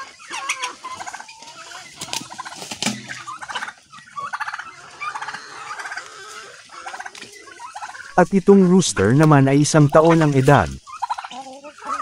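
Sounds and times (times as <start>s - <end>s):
chickens clucking: 0.0s - 12.0s
turkey warbling calls: 0.0s - 12.0s.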